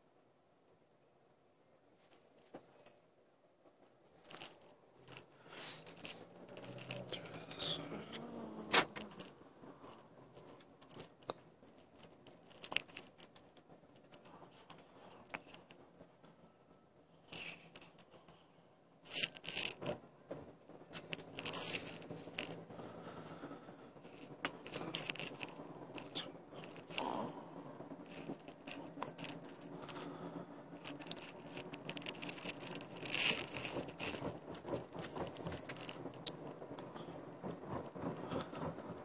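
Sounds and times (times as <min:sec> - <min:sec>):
low steady hum: 0:00.0 - 0:39.0
crackling and scraping noises: 0:01.8 - 0:39.0.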